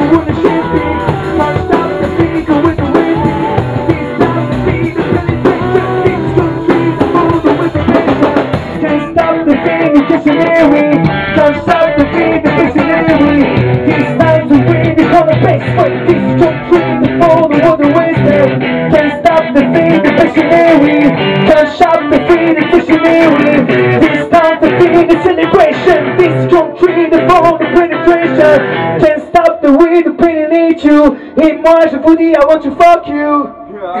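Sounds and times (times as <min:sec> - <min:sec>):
rock band playing: 0:00.0 - 0:33.0
man singing: 0:00.0 - 0:34.0.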